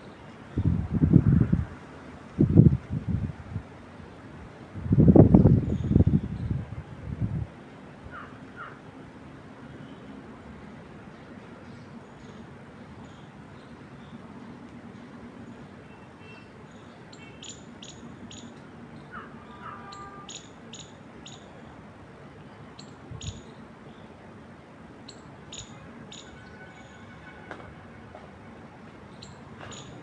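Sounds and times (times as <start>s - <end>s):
wind through trees: 0.0s - 30.0s.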